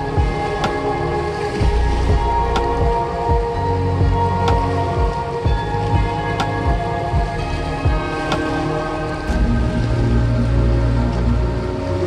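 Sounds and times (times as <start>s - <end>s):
background music with held tones: 0.0s - 12.0s
low rumble: 0.0s - 12.0s.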